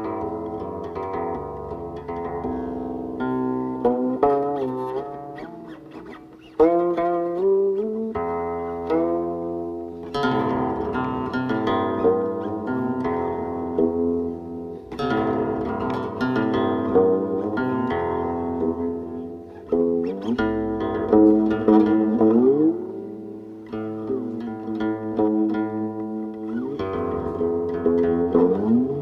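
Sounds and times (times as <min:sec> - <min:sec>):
plucked zither notes with pitch bends: 0:00.0 - 0:29.0.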